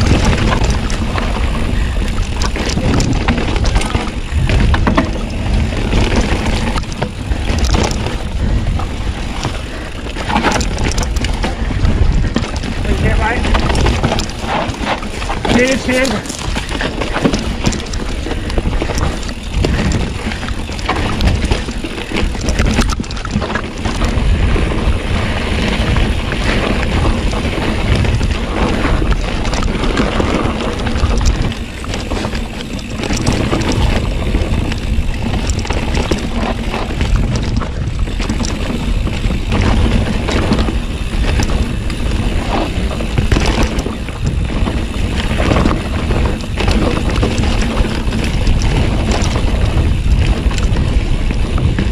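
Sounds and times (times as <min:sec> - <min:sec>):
bike rattling and knocking: 0:00.0 - 0:51.9
bike tyres rolling over dirt: 0:00.0 - 0:51.9
wind on microphone: 0:00.0 - 0:51.9.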